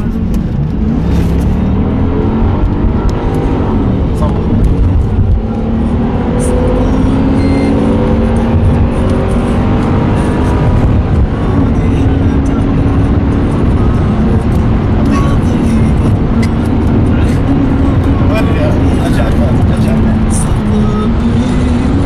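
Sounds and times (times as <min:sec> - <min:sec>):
race car engines at speed: 0:00.0 - 0:22.0.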